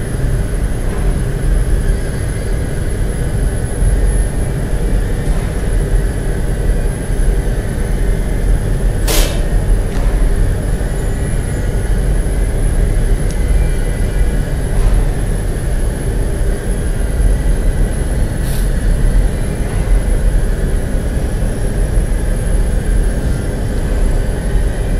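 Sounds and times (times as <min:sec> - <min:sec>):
heavy machinery rumbling: 0:00.0 - 0:24.9.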